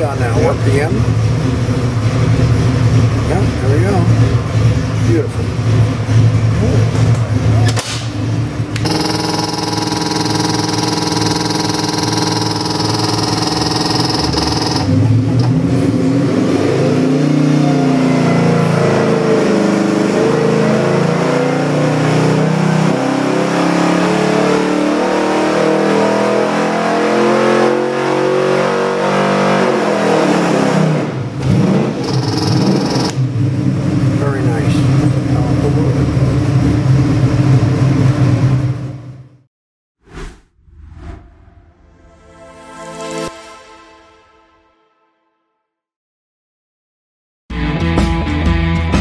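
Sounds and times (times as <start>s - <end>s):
engine idling and revving: 0.0s - 39.5s.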